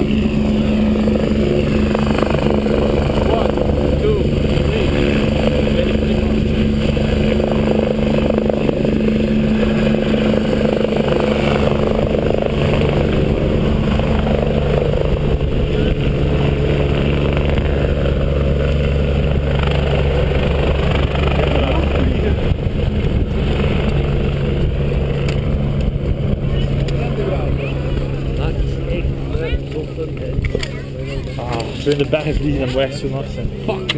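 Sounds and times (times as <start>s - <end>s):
helicopter engine drone: 0.0s - 33.9s.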